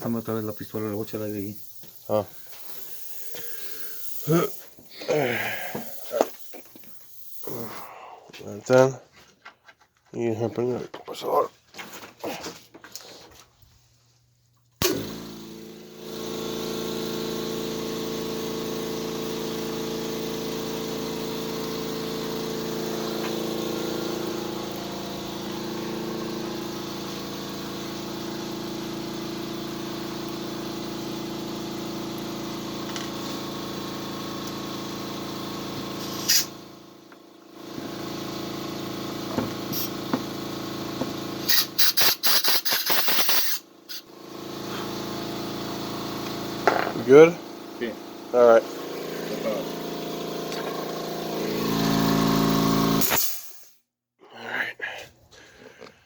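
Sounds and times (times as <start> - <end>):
air compressor running: 0.0 - 8.6, 14.8 - 53.7.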